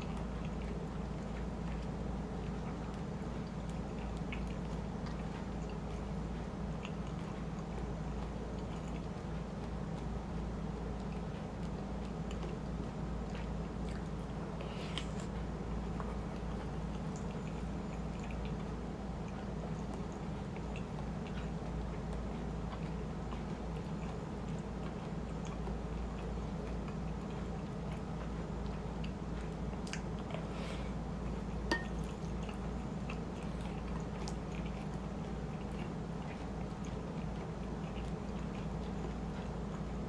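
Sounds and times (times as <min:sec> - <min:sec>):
close chewing: 0:00.0 - 0:40.0.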